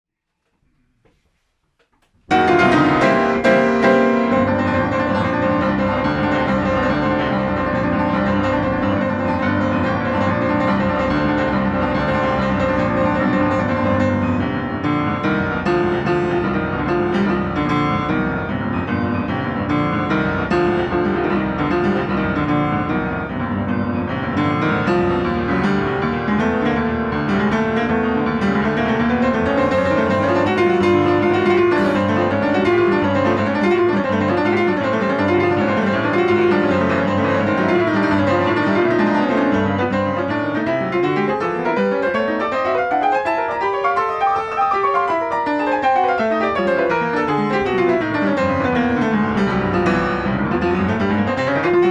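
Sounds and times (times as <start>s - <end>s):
piano playing: 2.3s - 51.9s.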